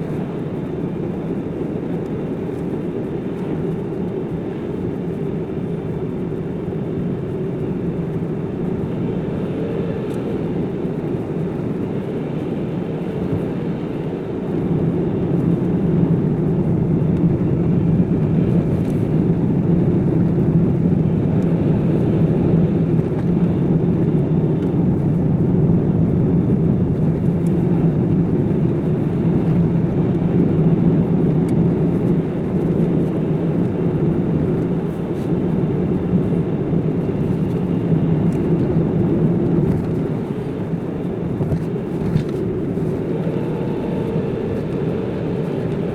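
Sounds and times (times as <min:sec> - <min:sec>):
engine and tyre noise: 0:00.0 - 0:45.9.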